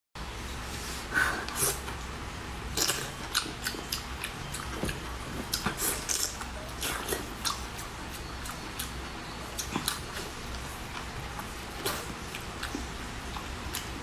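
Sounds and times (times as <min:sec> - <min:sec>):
person chewing: 0:02.7 - 0:14.0.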